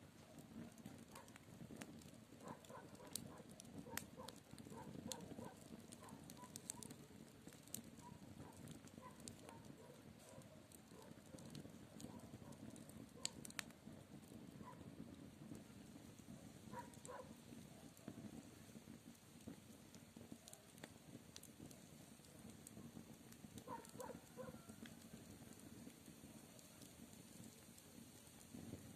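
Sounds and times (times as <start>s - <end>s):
campfire crackling: 0.0s - 28.9s.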